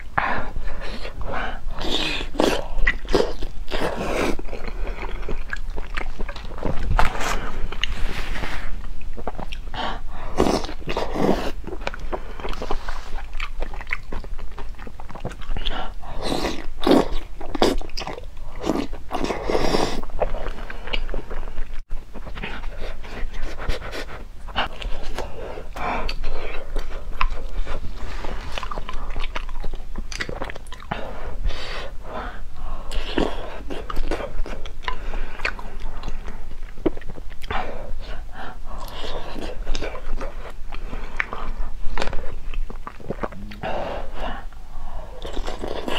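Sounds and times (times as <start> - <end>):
chewing and biting food: 0.7 - 31.4, 32.9 - 45.9.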